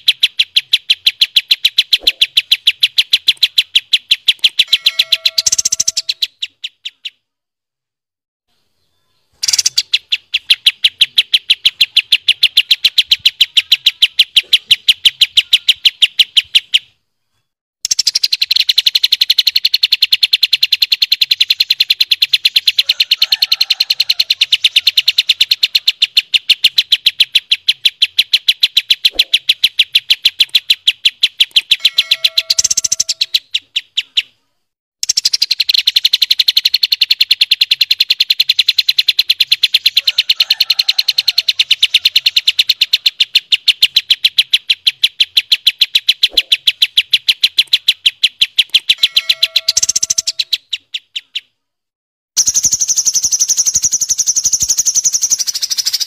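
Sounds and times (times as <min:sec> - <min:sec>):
lower steady bird notes: 0:00.0 - 0:07.3, 0:08.5 - 0:51.6, 0:52.4 - 0:56.0
songbirds singing rapid high notes: 0:00.0 - 0:07.3, 0:08.6 - 0:17.0, 0:17.8 - 0:34.4, 0:35.0 - 0:51.6, 0:52.4 - 0:56.0.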